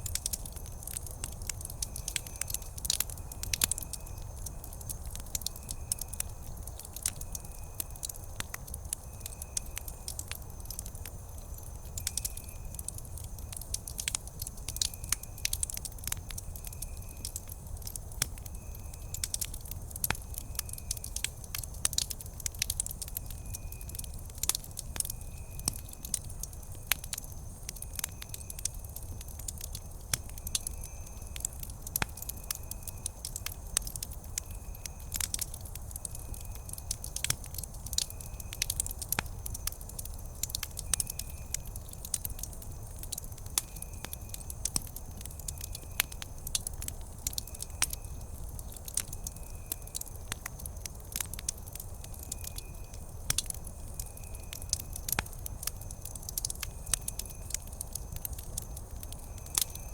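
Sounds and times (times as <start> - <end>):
campfire crackling: 0.0 - 59.9
sharp snaps and pops: 0.0 - 59.9.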